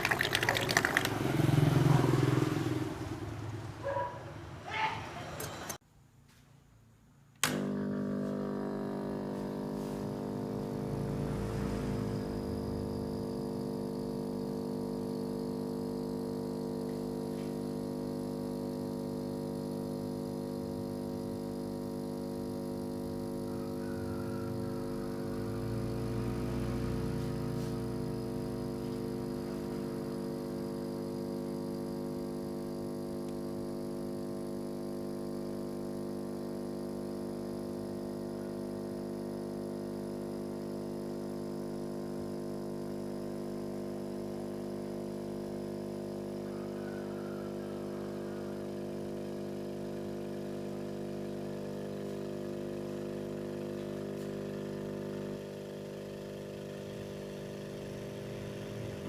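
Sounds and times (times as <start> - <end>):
aquarium air blower humming: 0.0 - 5.8, 7.3 - 59.0.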